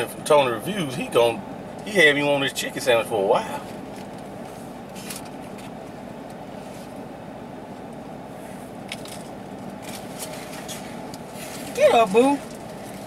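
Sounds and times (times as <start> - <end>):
vehicle idling hum from inside: 0.0 - 13.0.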